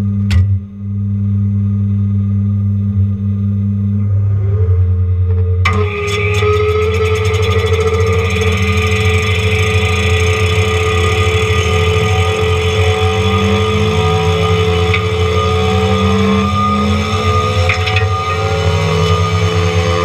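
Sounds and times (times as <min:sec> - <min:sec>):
track loader mulcher drone: 0:00.0 - 0:20.0.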